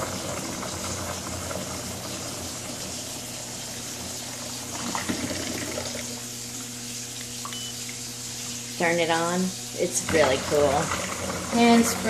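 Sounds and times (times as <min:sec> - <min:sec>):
water pouring into a tub: 0:00.0 - 0:12.0.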